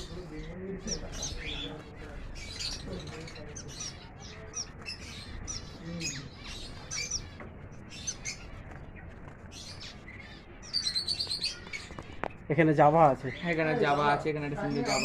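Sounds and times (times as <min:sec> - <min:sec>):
finches chirping: 0:00.0 - 0:15.0.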